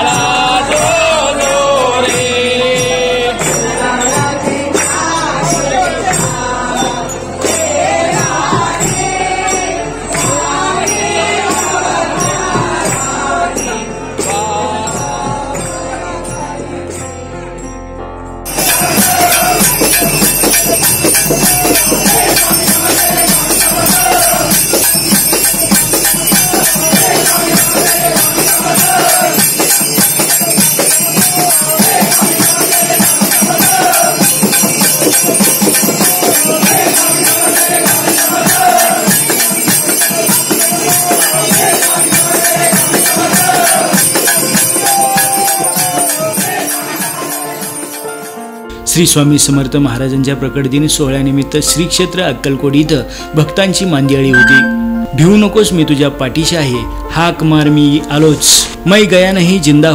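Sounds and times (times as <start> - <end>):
jingling percussion: 0.0 - 17.8, 18.4 - 48.7, 53.6 - 56.6
devotional melody: 0.0 - 59.9.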